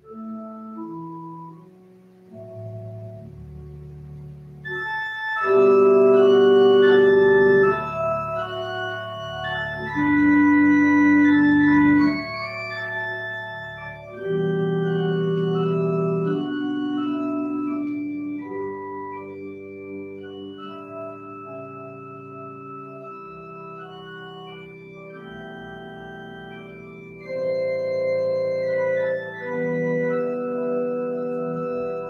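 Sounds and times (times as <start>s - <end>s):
church organ chords: 0.0s - 32.0s.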